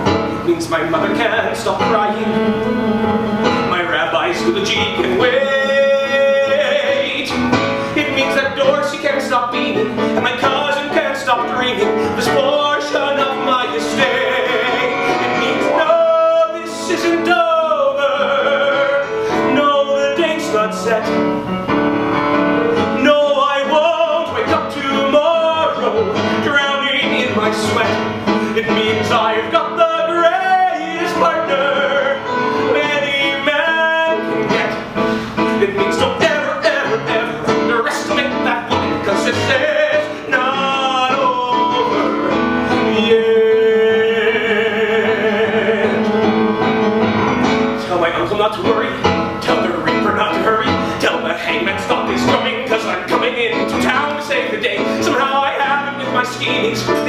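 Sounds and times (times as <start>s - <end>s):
man singing operatically: 0.0s - 57.0s
piano accompaniment: 0.0s - 57.0s.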